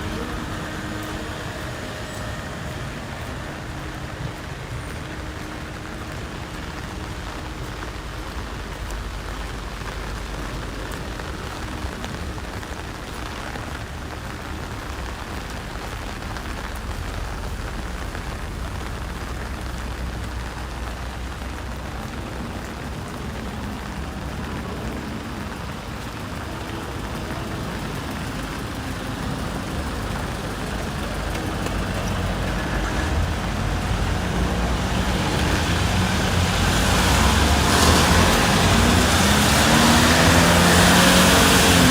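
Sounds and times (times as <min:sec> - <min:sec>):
road traffic rumble: 0:00.0 - 0:41.9
steady rain falling: 0:00.0 - 0:41.9
vehicle approaching: 0:00.0 - 0:41.9.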